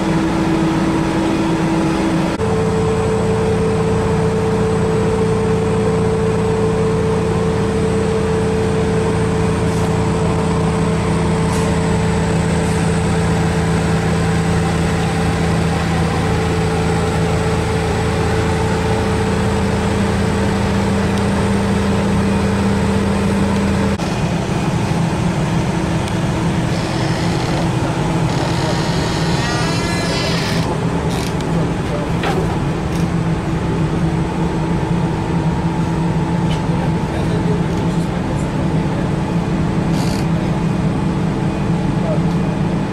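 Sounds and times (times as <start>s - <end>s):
industrial machinery humming: 0.0s - 42.9s.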